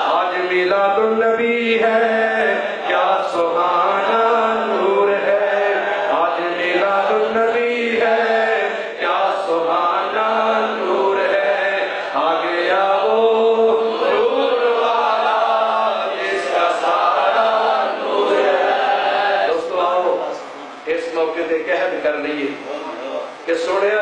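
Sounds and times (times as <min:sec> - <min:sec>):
man chanting into a microphone: 0:00.0 - 0:18.4, 0:19.3 - 0:24.0.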